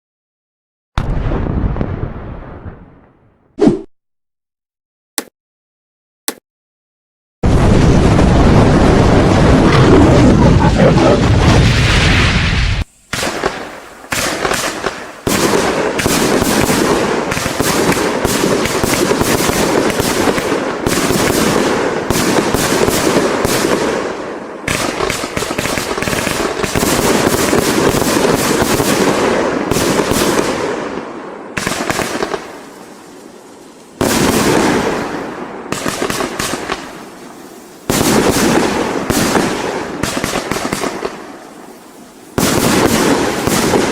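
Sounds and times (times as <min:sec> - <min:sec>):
firework crackling bursts: 0:07.4 - 0:43.9.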